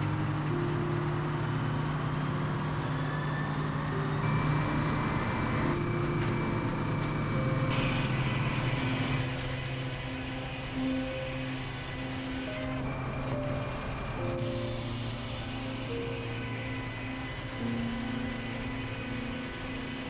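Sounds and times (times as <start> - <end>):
saw blade high whine: 0.0 - 20.0
sawmill machinery hum: 0.0 - 20.0.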